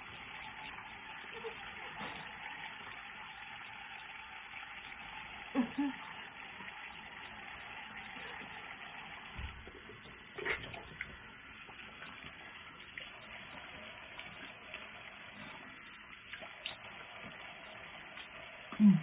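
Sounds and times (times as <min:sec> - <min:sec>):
tap water running into sink: 0:00.0 - 0:19.0.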